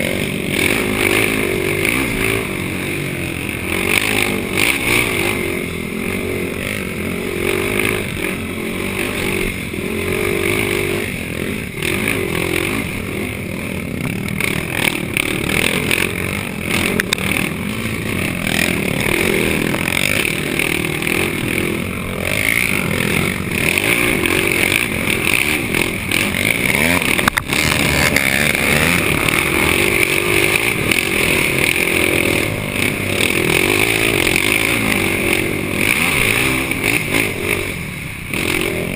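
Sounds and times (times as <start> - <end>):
quad engine running hard: 0.0 - 38.9.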